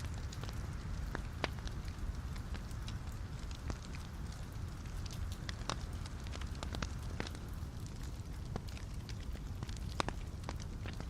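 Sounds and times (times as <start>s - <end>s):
fire flames rumbling: 0.0s - 11.0s
logs crackling and popping: 0.0s - 11.0s.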